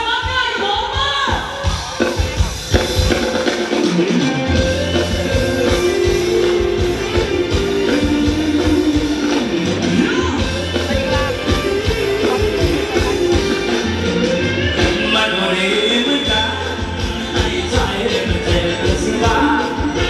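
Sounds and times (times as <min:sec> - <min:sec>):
live band dance music: 0:00.0 - 0:20.0.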